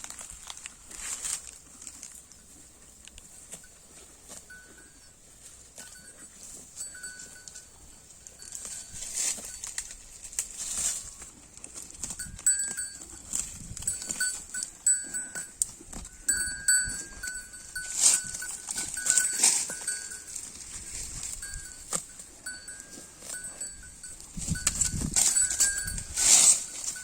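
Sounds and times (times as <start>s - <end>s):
cow tearing and chewing grass: 0.0s - 27.0s.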